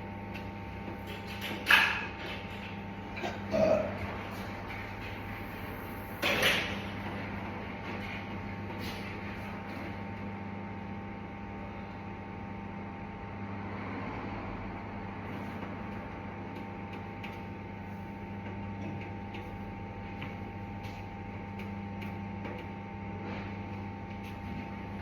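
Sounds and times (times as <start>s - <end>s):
microwave oven humming: 0.0s - 25.0s.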